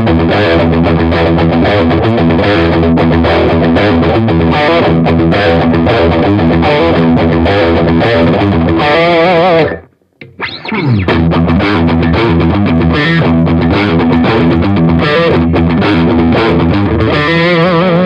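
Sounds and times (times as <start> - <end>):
electric guitar chords and riffs: 0.0 - 18.0.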